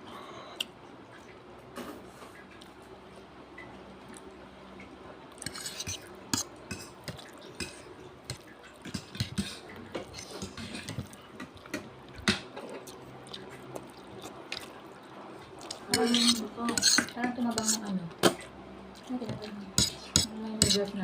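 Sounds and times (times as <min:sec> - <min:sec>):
wet eating sounds: 0:03.6 - 0:21.0.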